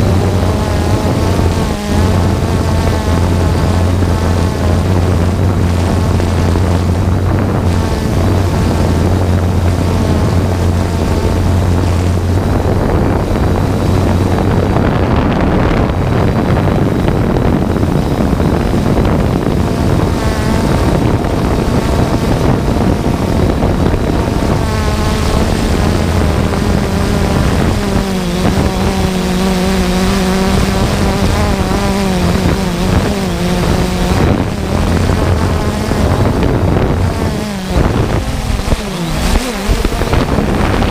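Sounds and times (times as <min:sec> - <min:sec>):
drone propellers buzzing: 0:00.0 - 0:40.9
wind noise on microphone: 0:00.0 - 0:40.9.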